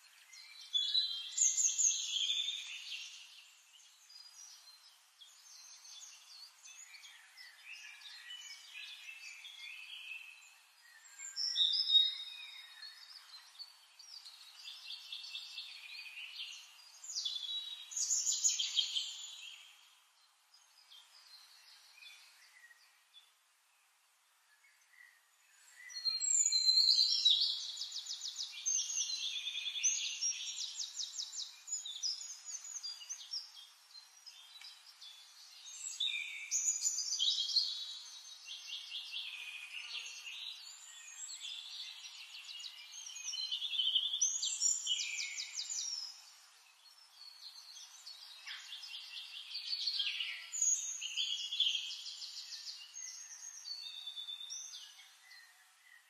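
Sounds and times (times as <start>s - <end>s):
faint forest hiss: 0.0s - 56.0s
songbirds trilling and warbling: 0.0s - 56.0s.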